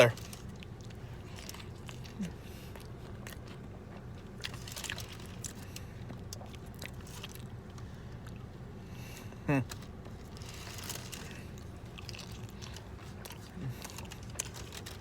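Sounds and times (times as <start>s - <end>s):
person chewing food: 0.1s - 15.0s.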